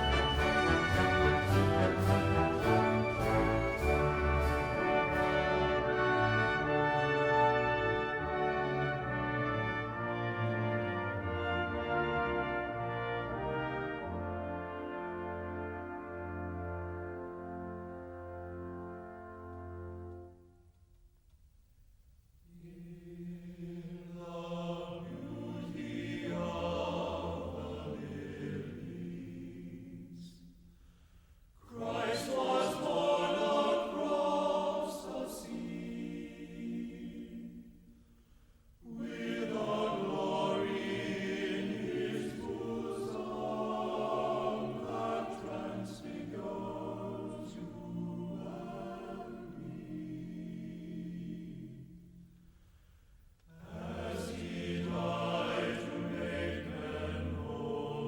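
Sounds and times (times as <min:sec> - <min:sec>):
choir singing sustained chords: 0:00.0 - 0:20.8, 0:22.2 - 0:58.0.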